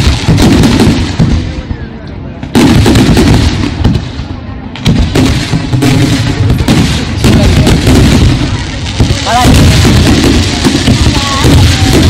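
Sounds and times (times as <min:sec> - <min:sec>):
fireworks booming: 0:00.0 - 0:12.0
fireworks crackling: 0:00.0 - 0:12.0.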